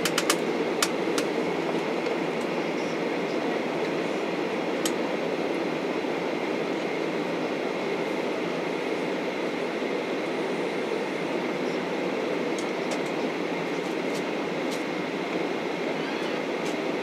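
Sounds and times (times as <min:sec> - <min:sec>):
cabin air noise: 0:00.0 - 0:17.0
jet engines rumbling: 0:00.0 - 0:17.0.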